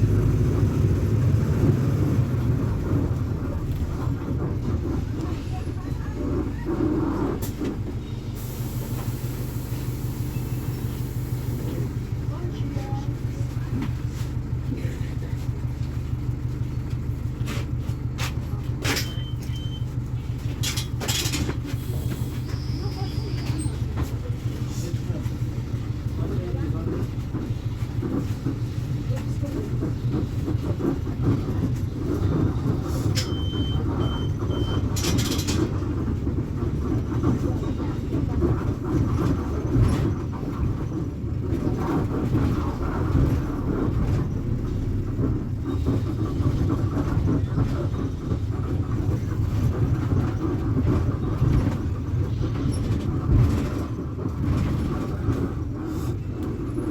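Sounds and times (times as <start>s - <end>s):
bus diesel engine drone: 0.0s - 56.9s.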